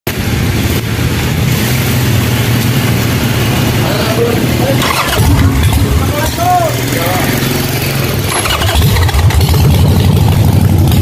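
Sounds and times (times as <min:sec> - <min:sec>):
motorcycle engine rumbling: 0:00.1 - 0:11.0.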